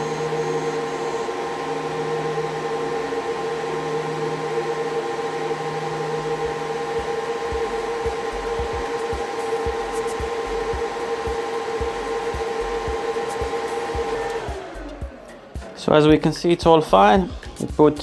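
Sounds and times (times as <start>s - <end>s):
cooling fans whirring: 0.0s - 18.0s.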